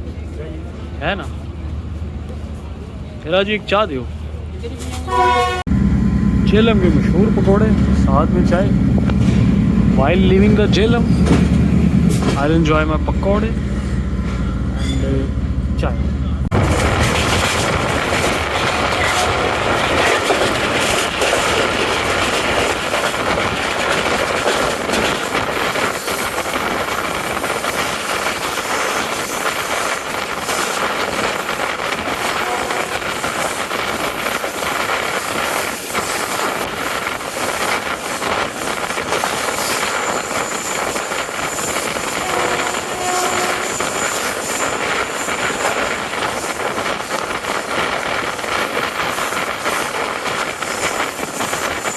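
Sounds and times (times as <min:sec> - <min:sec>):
train rushing on track: 0:00.0 - 0:51.9.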